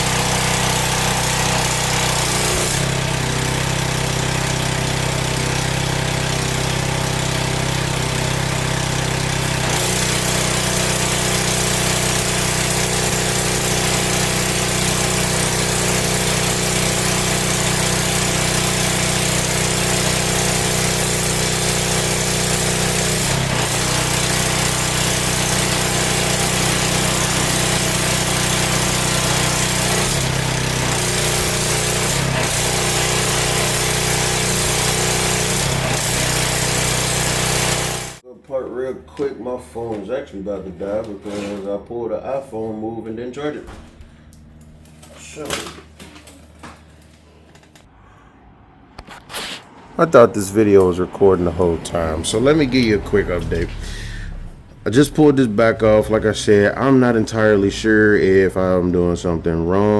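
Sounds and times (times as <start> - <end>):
pressure washer engine running: 0.0 - 38.2, 49.4 - 59.9.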